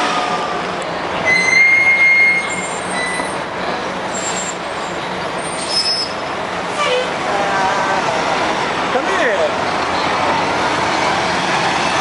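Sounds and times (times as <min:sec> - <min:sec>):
bus driving past: 0:00.0 - 0:12.0.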